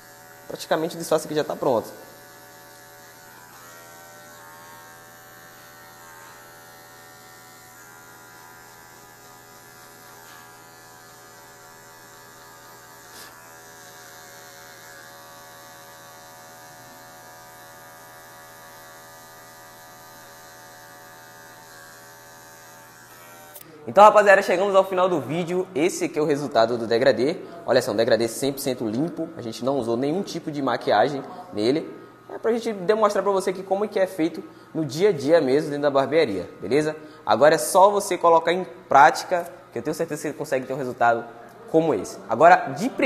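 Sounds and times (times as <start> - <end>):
hair clipper humming: 0.0 - 43.0.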